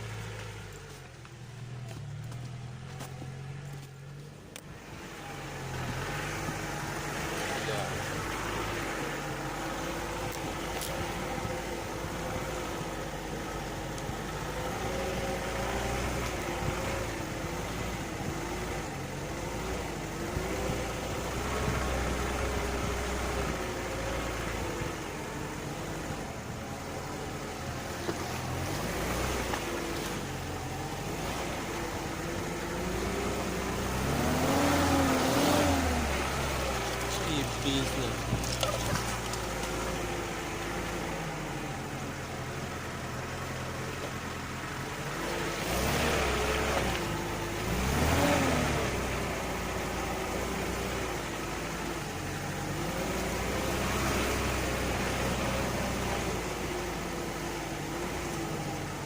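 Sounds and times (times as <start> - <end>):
car engine running under load: 0.0 - 59.0.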